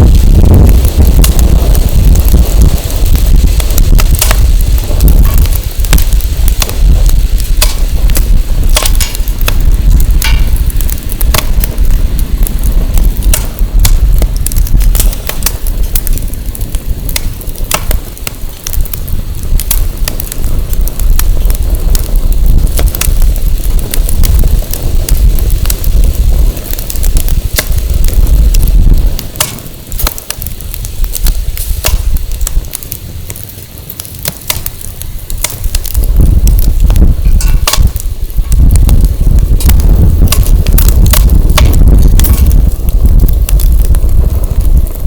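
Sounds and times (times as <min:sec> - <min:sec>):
bonfire crackling and popping: 0:00.0 - 0:45.0
wind buffeting microphone: 0:00.0 - 0:45.0.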